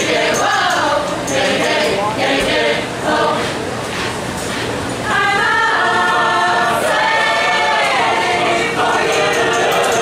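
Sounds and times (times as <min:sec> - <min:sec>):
mixed choir singing: 0:00.0 - 0:03.6, 0:05.0 - 0:10.0.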